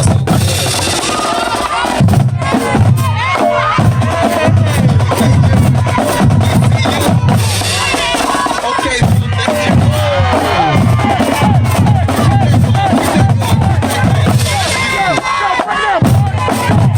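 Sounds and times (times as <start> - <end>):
marching drumline: 0.0 - 16.9
people calling out: 0.0 - 16.9.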